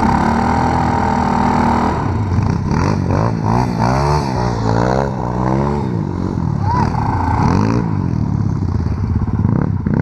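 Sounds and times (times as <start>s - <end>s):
small motorcycle engine revving: 0.0s - 10.0s.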